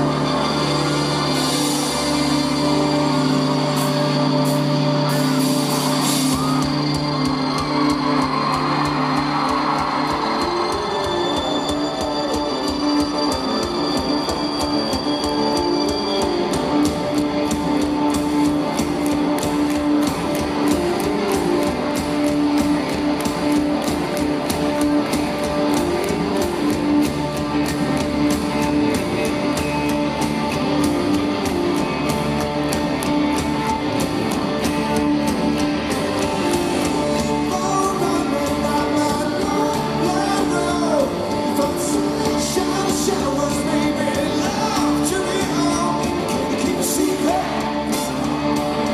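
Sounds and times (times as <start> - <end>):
drums steady beat: 0.0 - 48.9
guitar: 0.0 - 48.9
rock band playing: 0.0 - 48.9.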